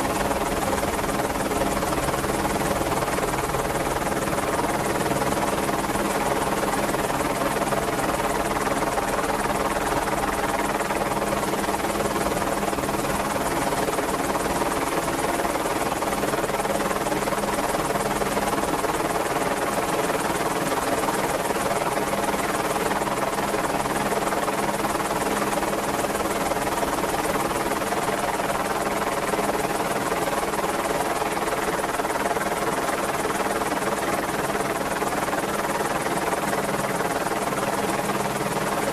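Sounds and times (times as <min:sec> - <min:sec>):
helicopter rotor and turbine hum: 0:00.0 - 0:38.9.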